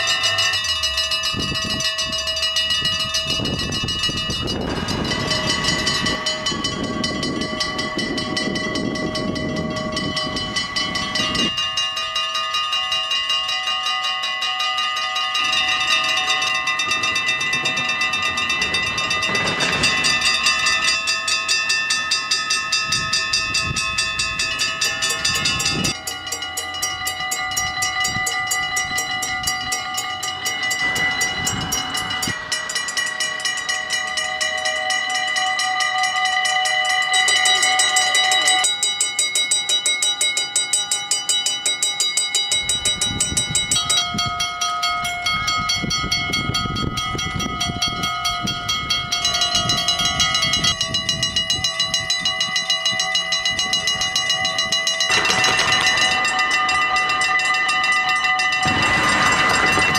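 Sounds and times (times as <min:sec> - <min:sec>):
level crossing bells ringing: 0:00.0 - 0:59.9.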